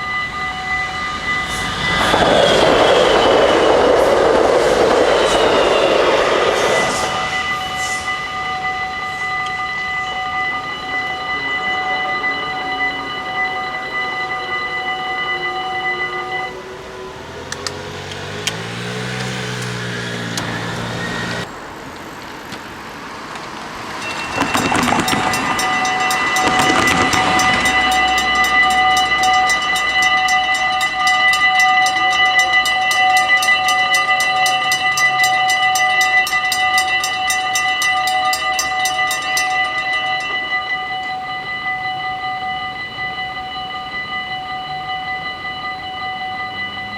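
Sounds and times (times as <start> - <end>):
train horn: 0.0 - 21.4, 23.8 - 46.9
level crossing bells ringing: 0.0 - 21.5, 23.3 - 46.9
train wheels rushing on rails: 0.0 - 46.9.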